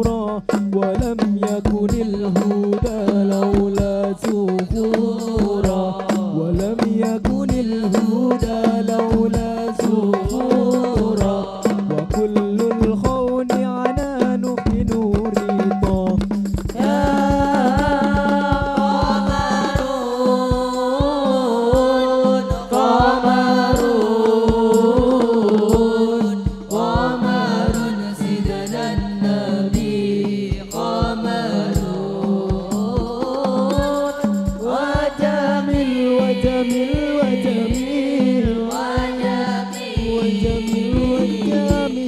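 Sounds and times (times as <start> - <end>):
person singing: 0.0 - 16.1, 16.8 - 42.0
fast drum beat: 0.0 - 42.0.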